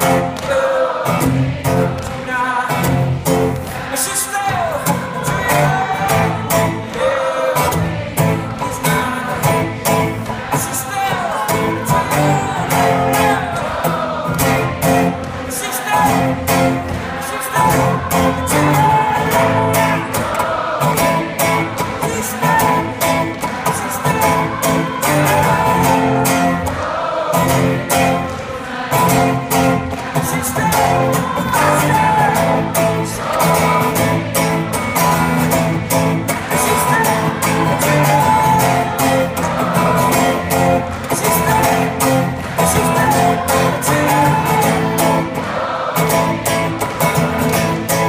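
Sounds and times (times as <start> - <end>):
audience singing together: 0.0 - 48.0
people clapping a beat: 0.0 - 48.0
strummed acoustic guitar: 0.0 - 48.0.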